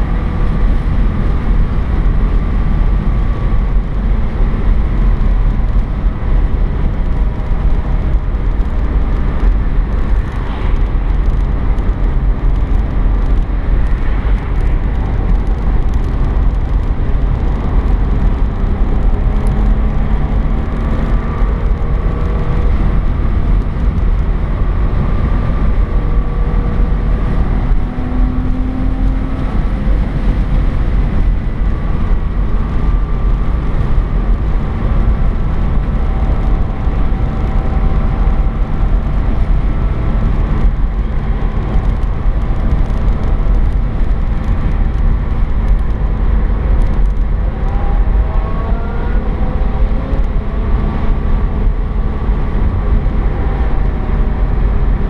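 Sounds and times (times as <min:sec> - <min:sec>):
road and wind noise in car: 0:00.0 - 0:55.0.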